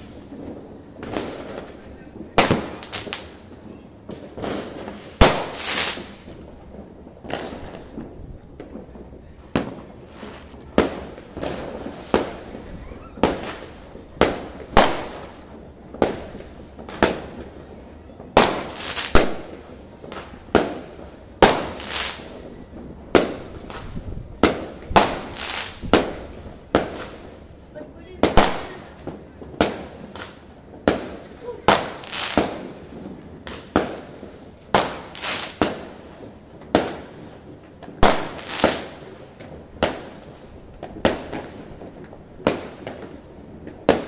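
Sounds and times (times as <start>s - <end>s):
fireworks bangs with echoes: 0.0s - 44.0s.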